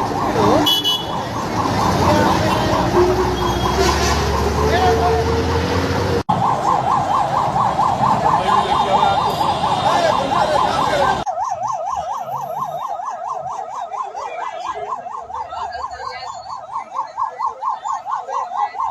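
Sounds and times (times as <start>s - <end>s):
emergency siren warbling: 0.0s - 18.9s
heavy street traffic: 0.0s - 18.9s.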